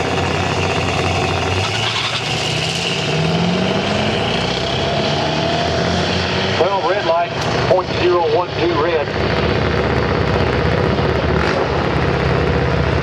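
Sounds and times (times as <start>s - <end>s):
drag racing engine accelerating: 0.0s - 13.0s.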